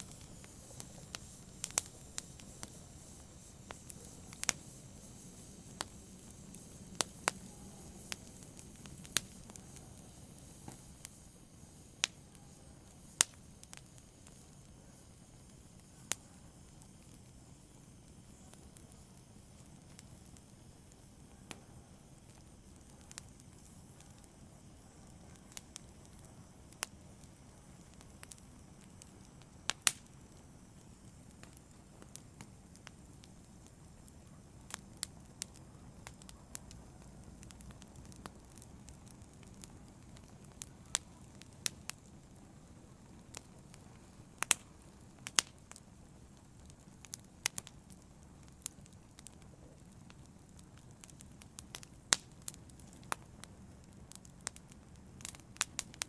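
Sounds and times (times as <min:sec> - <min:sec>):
fire crackling and popping: 0:00.0 - 0:56.0
fire hissing: 0:00.0 - 0:56.0.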